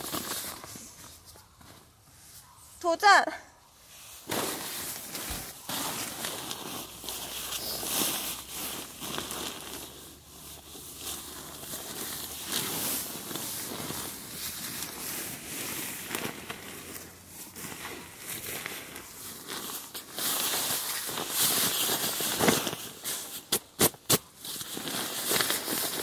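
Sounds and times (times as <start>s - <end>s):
sleeping bag fabric rustling: 0.0s - 2.3s, 4.0s - 23.5s, 24.4s - 26.0s.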